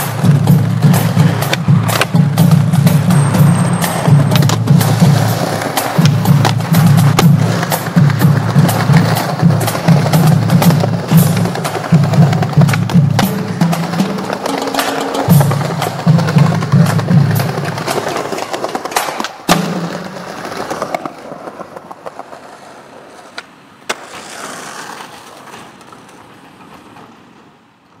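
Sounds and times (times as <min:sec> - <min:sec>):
skateboard clacks: 0:00.0 - 0:28.0
skateboard rolling: 0:00.0 - 0:28.0.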